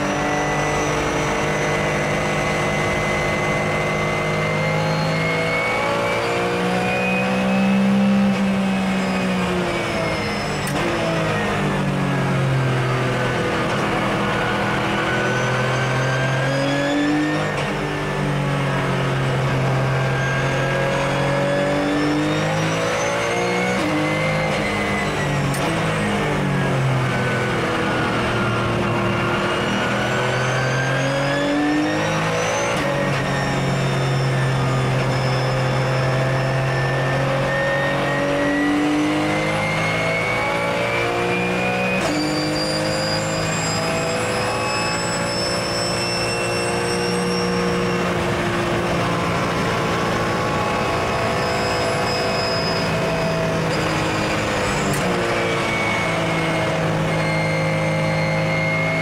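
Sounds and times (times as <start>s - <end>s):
race car engine from inside cabin: 0.0s - 59.0s.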